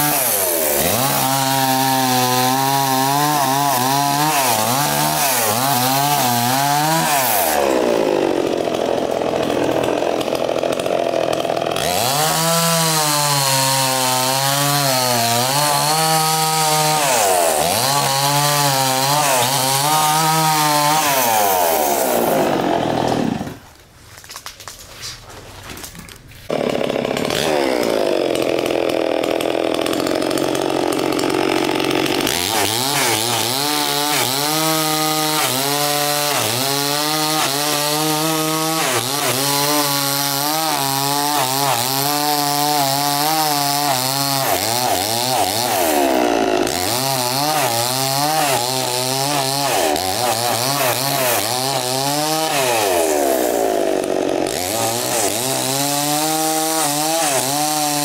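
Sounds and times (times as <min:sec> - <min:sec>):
chainsaw revving: 0:00.0 - 0:23.6, 0:26.5 - 0:58.0.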